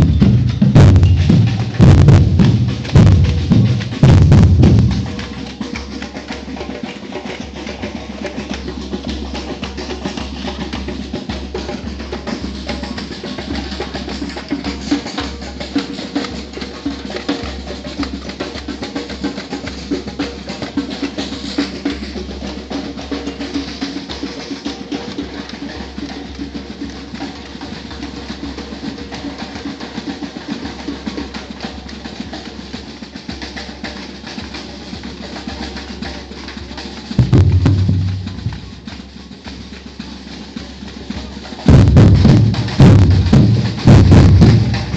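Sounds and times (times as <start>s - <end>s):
samba drum ensemble: 0.0s - 44.9s.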